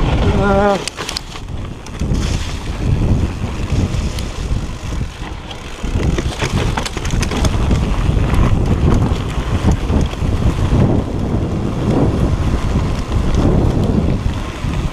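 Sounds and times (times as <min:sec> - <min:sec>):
bike clicks and rattles: 0:00.0 - 0:14.9
wind buffeting microphone: 0:00.0 - 0:14.9.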